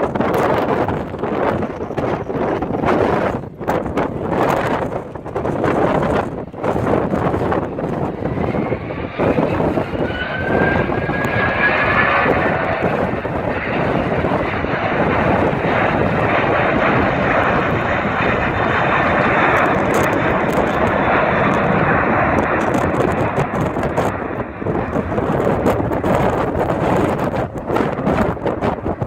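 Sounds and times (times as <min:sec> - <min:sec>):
jet engines at takeoff thrust: 0:00.0 - 0:29.0
wind buffeting microphone: 0:00.0 - 0:29.0.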